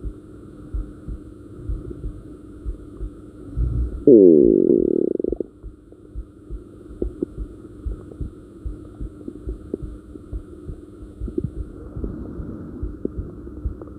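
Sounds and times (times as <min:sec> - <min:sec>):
heartbeat thumps: 0:00.0 - 0:12.2, 0:12.8 - 0:13.9
steady low hum: 0:00.0 - 0:13.9.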